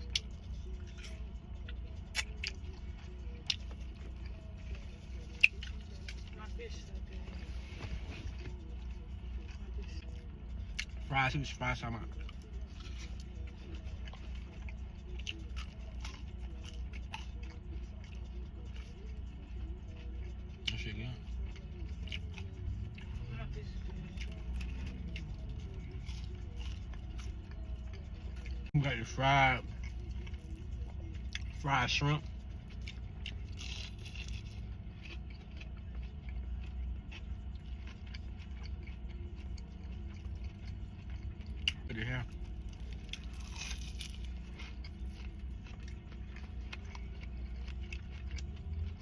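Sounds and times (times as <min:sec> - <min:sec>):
chewing crunchy food: 0:00.0 - 0:49.0
steady low hum: 0:00.0 - 0:49.0.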